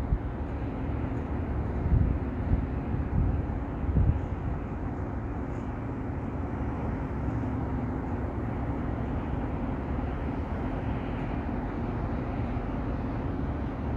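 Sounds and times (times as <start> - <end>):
mechanical hum and rumble: 0.0 - 13.9.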